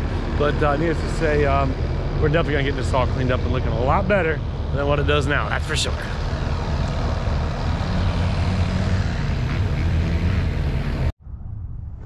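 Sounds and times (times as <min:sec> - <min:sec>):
heavy equipment engine running: 0:00.0 - 0:11.1.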